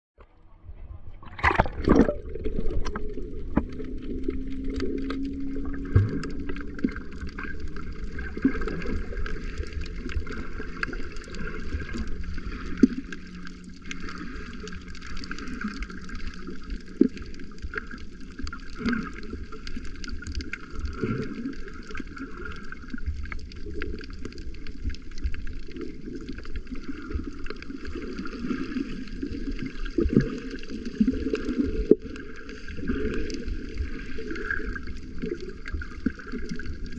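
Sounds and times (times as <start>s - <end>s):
small underwater clicks and crackles: 1.1s - 36.9s
underwater hiss and wash: 1.5s - 36.9s.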